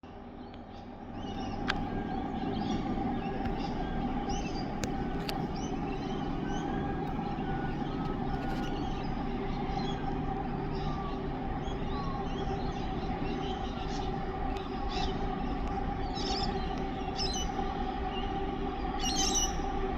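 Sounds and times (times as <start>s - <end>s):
diesel locomotives rumbling: 0.0s - 19.9s
birds chirping: 0.1s - 19.9s.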